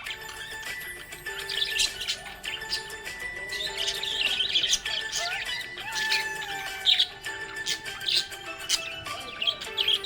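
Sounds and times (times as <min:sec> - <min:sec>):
background music with held notes: 0:00.0 - 0:10.0
budgerigars chirping and warbling: 0:00.0 - 0:10.0.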